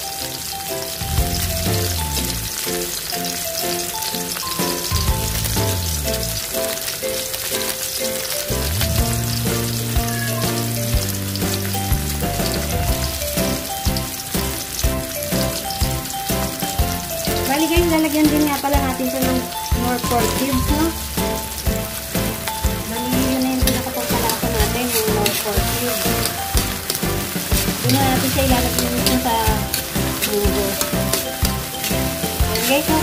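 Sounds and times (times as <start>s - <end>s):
background music: 0.0s - 33.0s
food sizzling in a pan: 0.0s - 33.0s.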